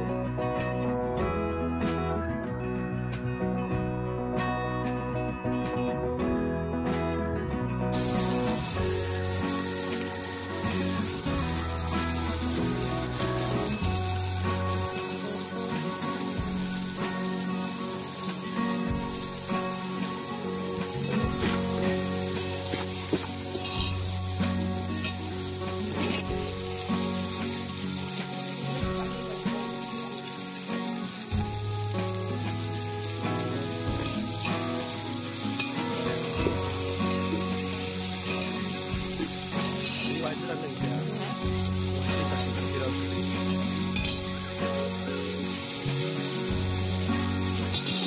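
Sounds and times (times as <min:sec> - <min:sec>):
background music: 0:00.0 - 0:48.0
vegetables sizzling in hot oil: 0:07.9 - 0:48.0.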